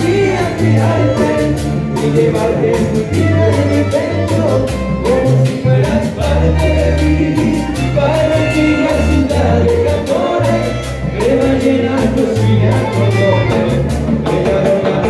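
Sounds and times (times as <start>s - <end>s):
accordion: 0.0s - 15.0s
live latin dance band: 0.0s - 15.0s.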